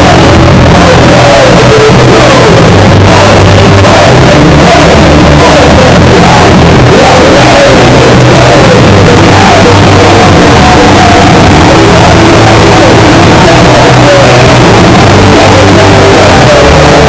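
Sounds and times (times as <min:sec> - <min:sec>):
punk band playing live: 0:00.0 - 0:17.0.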